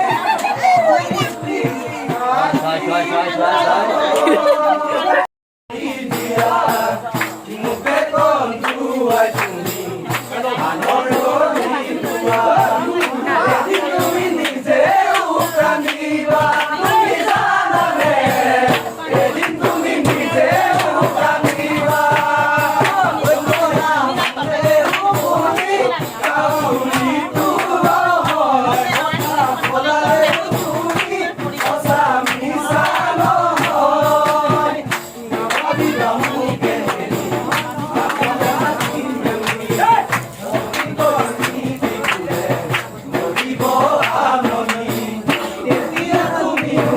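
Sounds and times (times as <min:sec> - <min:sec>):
busy percussion beat: 0:00.0 - 0:05.1, 0:05.7 - 0:46.9
person singing: 0:00.0 - 0:46.9.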